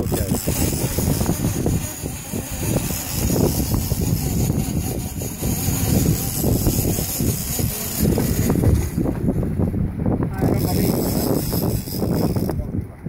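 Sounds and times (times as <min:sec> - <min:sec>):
boat engine drone: 0:00.0 - 0:12.8
wind buffeting microphone: 0:00.0 - 0:13.0.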